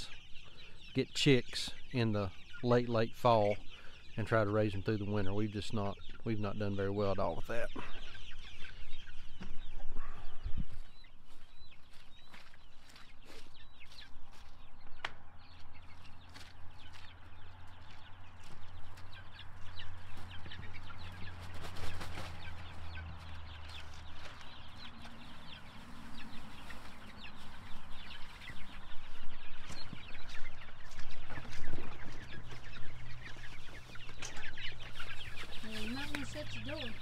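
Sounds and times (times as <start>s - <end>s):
chickens cheeping and clucking: 0.0s - 37.0s.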